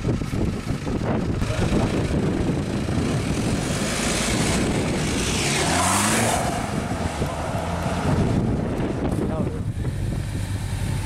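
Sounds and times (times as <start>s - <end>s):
car engine pulling away: 0.0s - 11.0s
tyre and wind rush: 0.0s - 11.0s.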